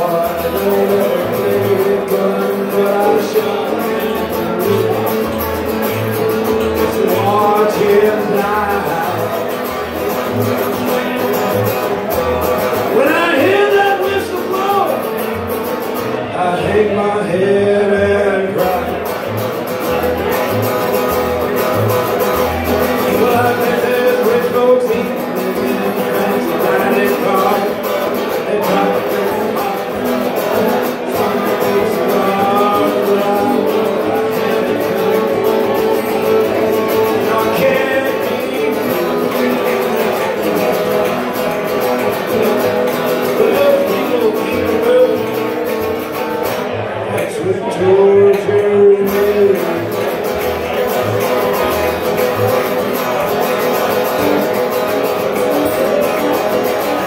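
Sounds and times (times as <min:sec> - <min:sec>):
acoustic guitar strumming: 0:00.0 - 0:57.0
man singing country song: 0:00.0 - 0:57.0.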